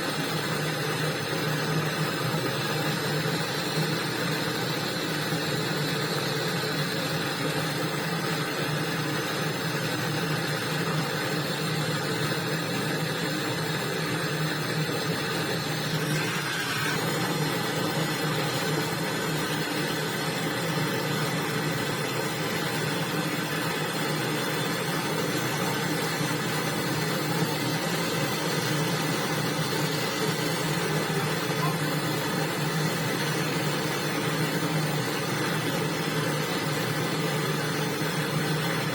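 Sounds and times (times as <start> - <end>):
motor humming: 0.0 - 37.4
faint high whine: 0.0 - 38.9.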